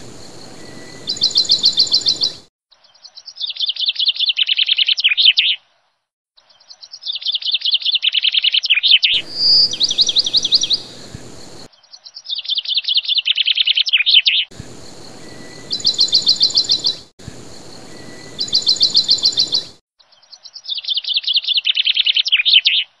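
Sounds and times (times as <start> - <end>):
small bird chirping trills: 0.0 - 5.6, 6.4 - 23.0.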